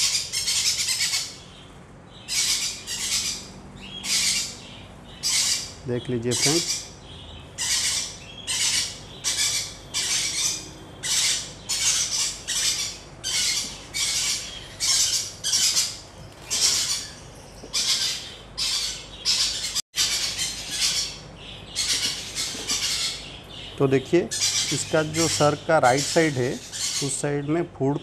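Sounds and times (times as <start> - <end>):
parrot chick squawking: 0.0 - 27.2.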